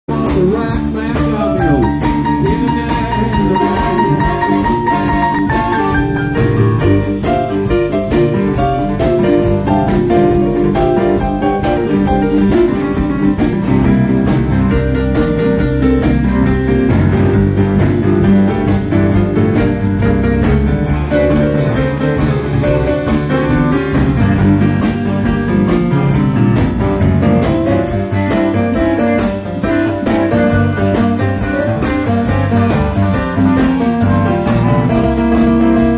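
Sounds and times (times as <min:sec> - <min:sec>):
keyboard in piano voice: 0:00.1 - 0:35.9
live band playing: 0:00.1 - 0:35.9.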